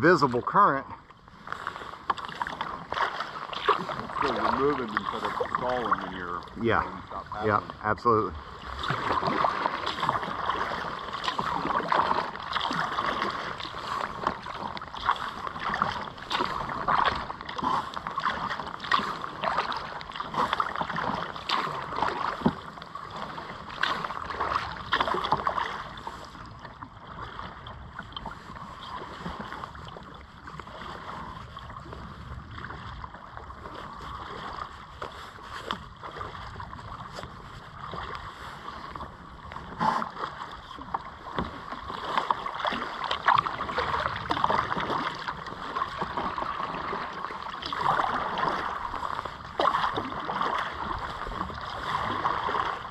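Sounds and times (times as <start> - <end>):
paddle splashing in water: 0.0 - 52.9.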